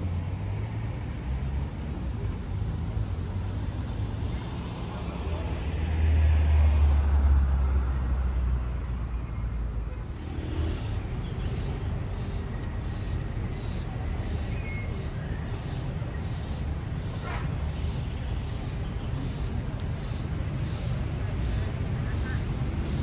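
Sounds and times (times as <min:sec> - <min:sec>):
low rumble of traffic: 0:00.0 - 0:23.0.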